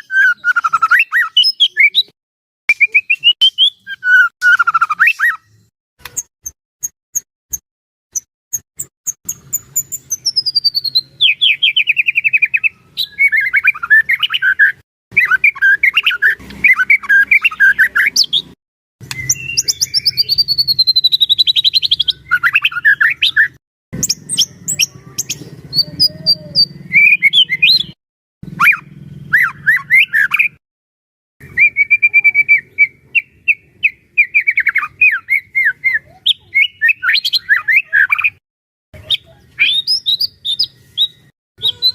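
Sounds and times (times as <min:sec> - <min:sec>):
songbird singing whistles and trills: 0:00.0 - 0:05.6, 0:08.8 - 0:30.6, 0:31.4 - 0:38.4, 0:39.0 - 0:41.9.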